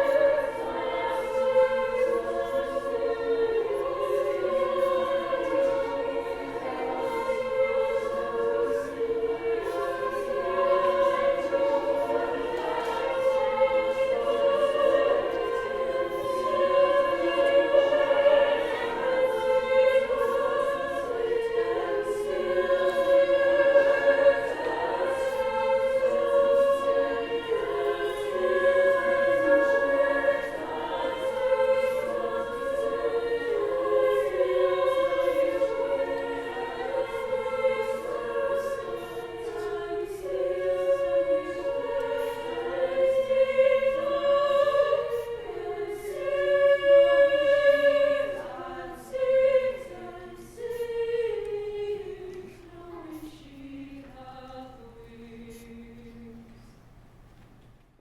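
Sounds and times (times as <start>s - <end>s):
choir singing in parts: 0.0s - 56.8s.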